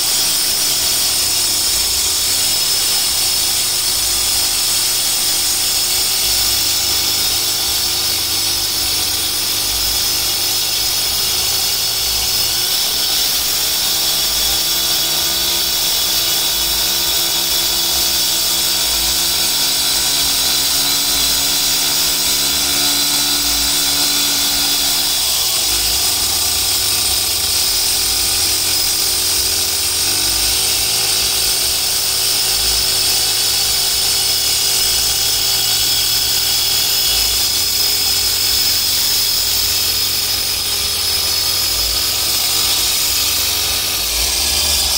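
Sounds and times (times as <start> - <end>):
power cutter grinding concrete: 0.0 - 44.9
two-stroke engine: 0.0 - 44.9.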